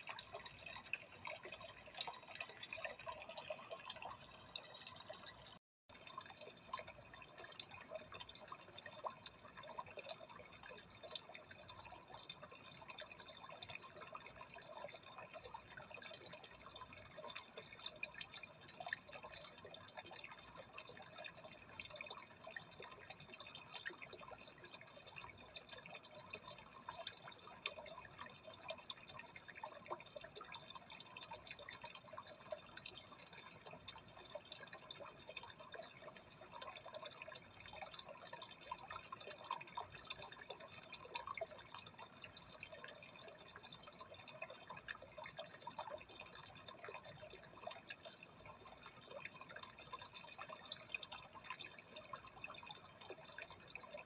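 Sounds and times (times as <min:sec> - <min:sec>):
aquarium water trickling and bubbling: 0:00.0 - 0:54.0.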